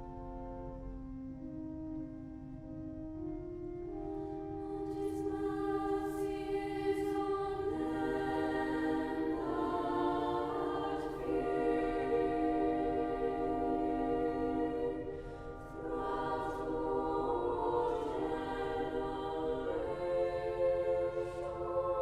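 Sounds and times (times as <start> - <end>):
held accompanying chords: 0.0 - 22.0
choir singing: 4.0 - 22.0.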